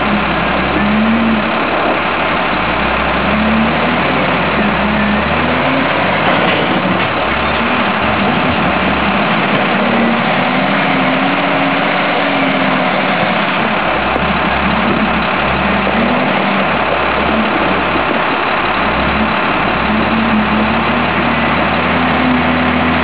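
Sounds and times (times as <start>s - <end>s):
steady wash of noise: 0.0s - 23.0s
wheel loader diesel engine revving: 0.0s - 23.0s.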